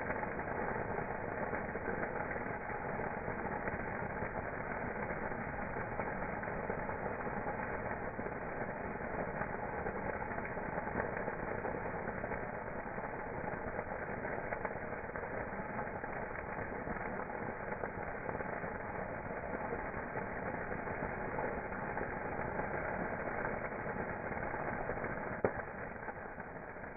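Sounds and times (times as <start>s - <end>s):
campfire flames rushing: 0.0s - 26.9s
fire crackling: 0.0s - 26.9s.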